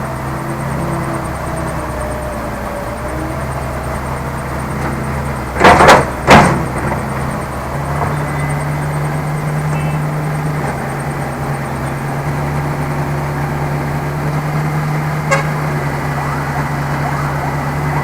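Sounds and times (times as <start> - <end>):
diesel engine humming: 0.0 - 18.0.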